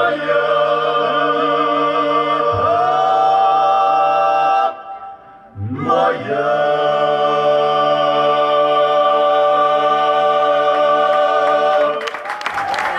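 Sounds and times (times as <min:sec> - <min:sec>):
male choir singing a cappella: 0:00.0 - 0:12.2.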